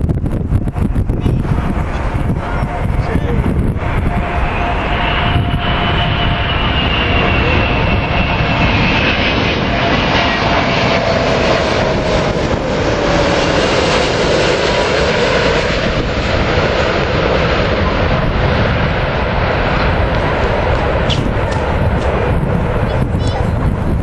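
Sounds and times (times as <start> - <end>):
engine whine: 0.0 - 24.0
jet engines roaring: 0.0 - 24.0.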